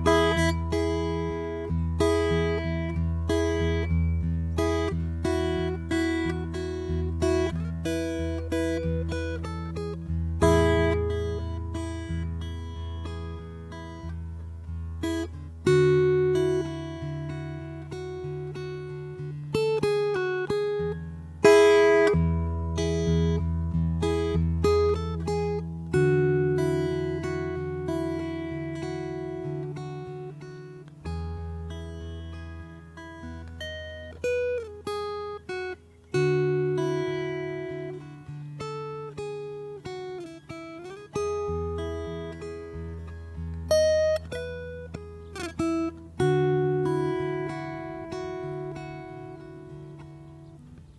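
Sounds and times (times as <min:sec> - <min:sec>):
acoustic guitar plucking: 0:00.0 - 0:50.9.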